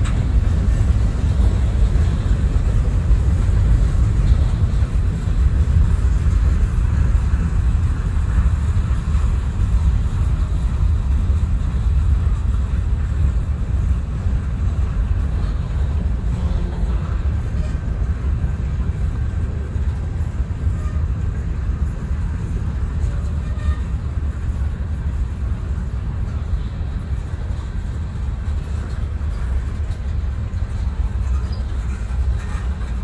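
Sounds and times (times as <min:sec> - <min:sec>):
freight train rumbling past: 0:00.0 - 0:33.0
wheels clicking on rails: 0:00.0 - 0:33.0.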